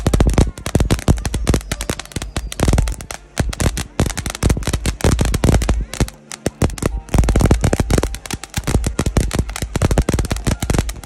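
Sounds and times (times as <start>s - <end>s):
fireworks cracking and popping: 0.0s - 11.0s.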